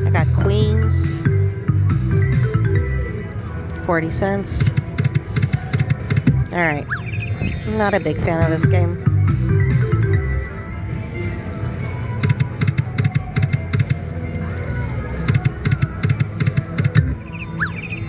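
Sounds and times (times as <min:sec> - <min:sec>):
electronic slot machine tune: 0:00.0 - 0:18.0.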